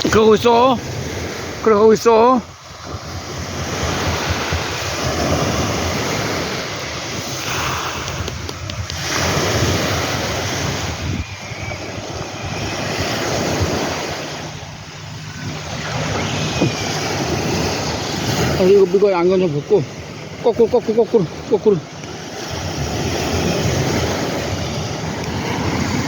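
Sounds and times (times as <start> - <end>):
sea waves breaking on sand: 0.0 - 26.0
wind buffeting microphone: 0.0 - 26.0.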